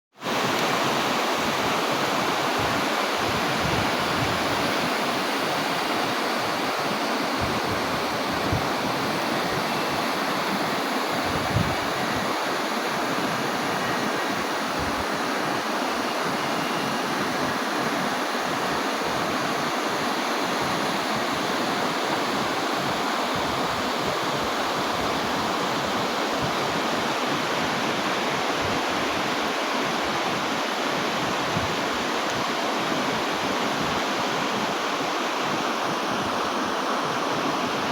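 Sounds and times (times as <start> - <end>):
torrential rain hiss: 0.2 - 37.9.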